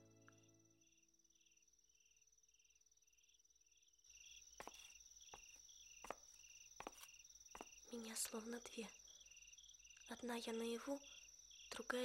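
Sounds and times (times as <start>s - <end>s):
crickets chirping: 0.2s - 12.0s.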